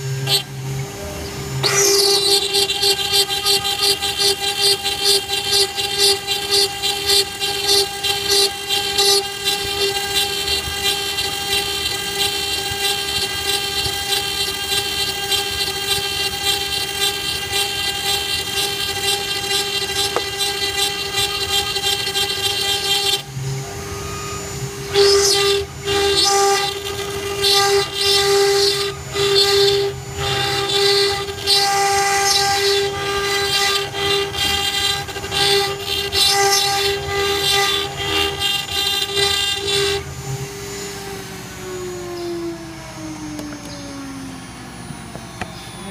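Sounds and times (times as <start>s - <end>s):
bit grinding into stone: 0.0s - 23.3s, 24.4s - 41.0s
router spindle whine: 0.0s - 45.9s.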